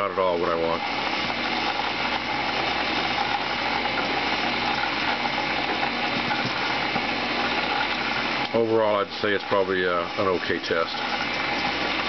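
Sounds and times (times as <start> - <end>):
coil winder mechanical whir: 0.0 - 12.0.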